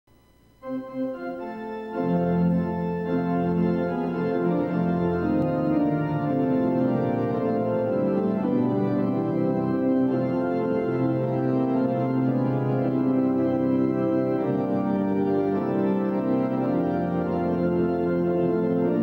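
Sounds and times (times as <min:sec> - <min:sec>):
organ playing held chords: 0:00.1 - 0:19.0
deep bass organ notes: 0:00.6 - 0:19.0.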